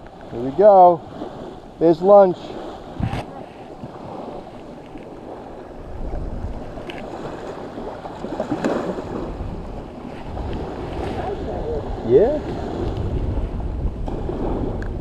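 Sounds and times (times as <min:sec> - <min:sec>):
surf on beach: 0:00.0 - 0:15.0
wind buffeting microphone: 0:00.0 - 0:15.0.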